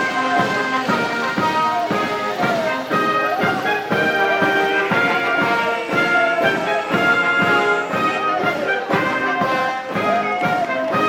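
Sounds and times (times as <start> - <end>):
brass instruments playing march: 0.0 - 11.0
steady drumbeat: 0.0 - 11.0.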